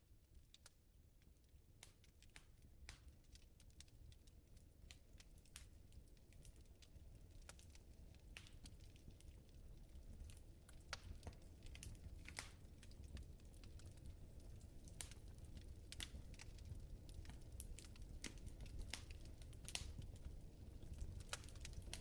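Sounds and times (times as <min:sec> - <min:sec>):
wood fire crackling: 0:00.2 - 0:22.0.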